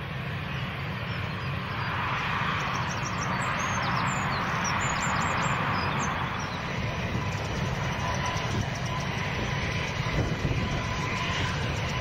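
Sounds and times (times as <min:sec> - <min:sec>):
jet engines taxiing: 0:00.0 - 0:12.0
birds chirping: 0:00.4 - 0:12.0.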